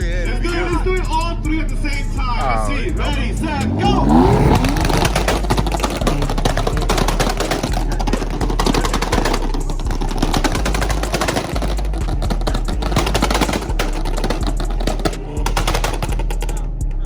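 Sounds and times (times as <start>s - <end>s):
exhaust popping: 0.0s - 17.0s
car engine on launch limiter: 0.5s - 16.6s.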